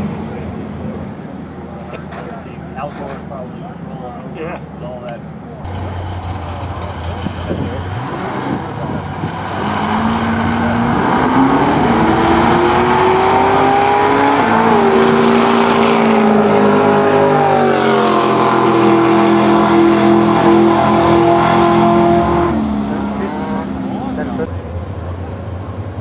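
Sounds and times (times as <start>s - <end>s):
diesel drag car accelerating: 0.0s - 26.0s.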